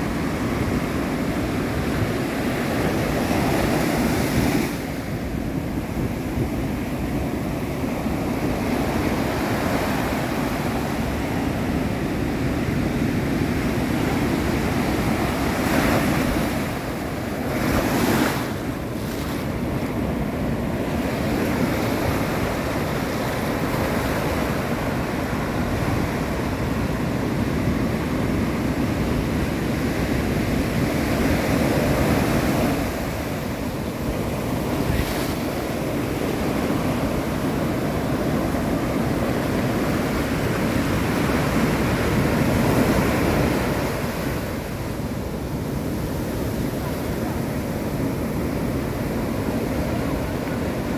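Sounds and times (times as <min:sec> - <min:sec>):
ocean surf breaking: 0:00.0 - 0:50.9
wind on microphone: 0:00.0 - 0:50.9.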